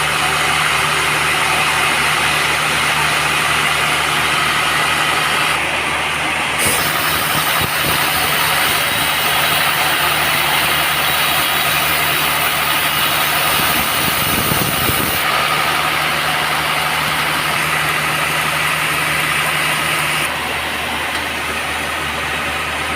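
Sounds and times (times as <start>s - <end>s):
sawmill engine running: 0.0s - 22.9s.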